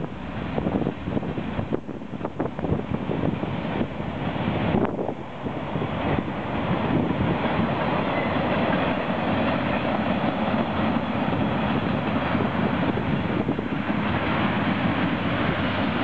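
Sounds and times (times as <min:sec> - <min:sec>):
steel train wheels on rails: 0:00.0 - 0:16.0.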